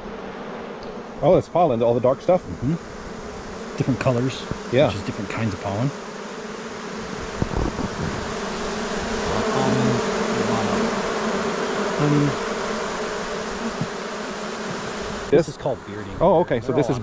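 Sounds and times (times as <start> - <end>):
bees humming: 0.0 - 17.0.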